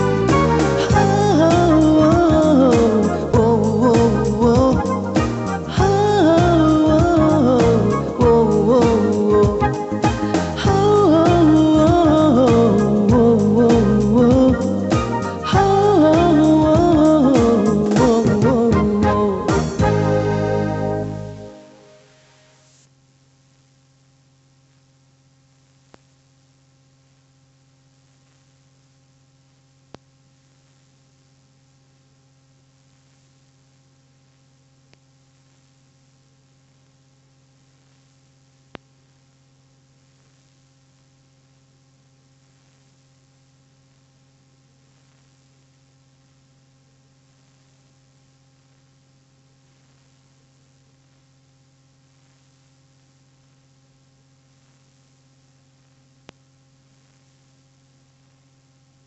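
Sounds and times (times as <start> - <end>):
faint electrical hum: 0.0 - 59.0.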